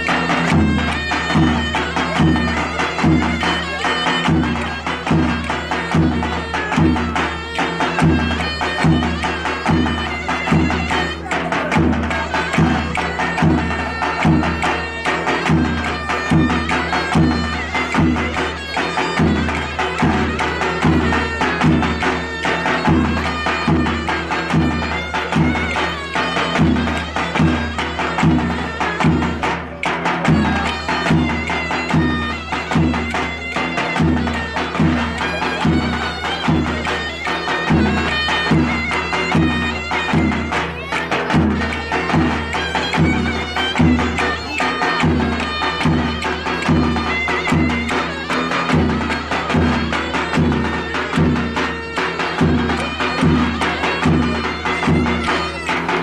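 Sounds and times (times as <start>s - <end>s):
shrill reedy pipe melody: 0.0s - 56.0s.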